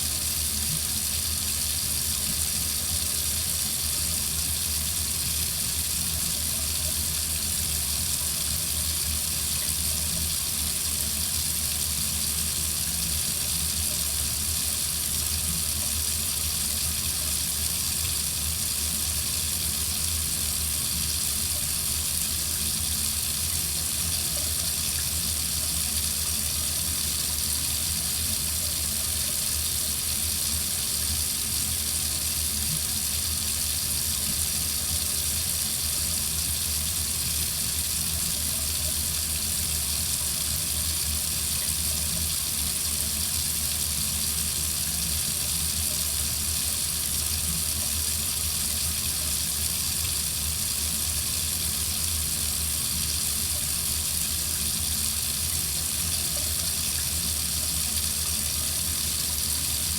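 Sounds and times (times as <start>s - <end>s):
faucet running water: 0.0s - 59.9s.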